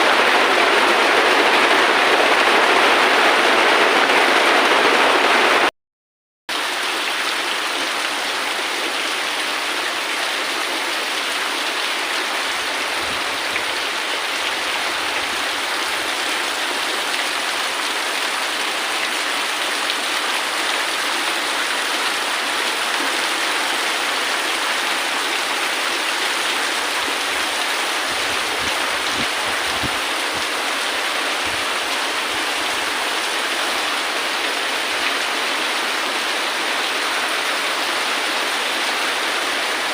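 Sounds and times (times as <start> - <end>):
steady rain: 0.0 - 5.7, 6.5 - 39.9.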